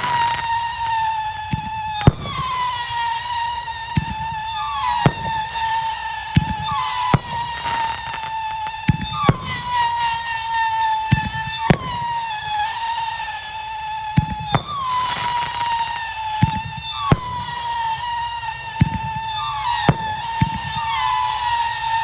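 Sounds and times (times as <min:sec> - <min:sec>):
fireworks launching: 0:00.0 - 0:22.0
shrill firework whistles: 0:00.0 - 0:22.0.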